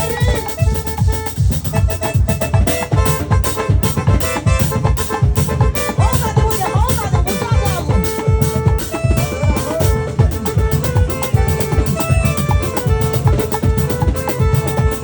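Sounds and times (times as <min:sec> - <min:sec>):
hand drums fast rhythm: 0:00.0 - 0:15.0
held melodic notes: 0:00.0 - 0:15.0.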